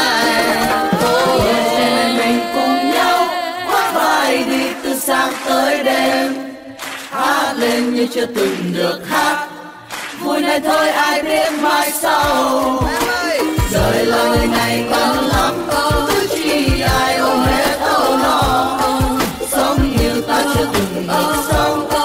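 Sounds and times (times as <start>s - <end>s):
pop song with sung vocals: 0.0s - 22.0s.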